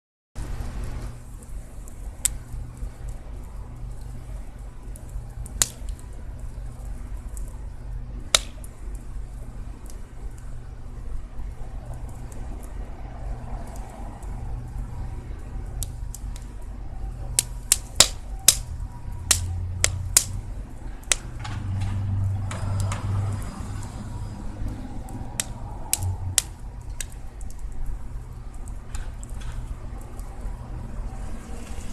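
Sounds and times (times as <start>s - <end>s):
bonfire crackling and popping: 0.4s - 31.9s
steady low rumble: 0.4s - 31.9s.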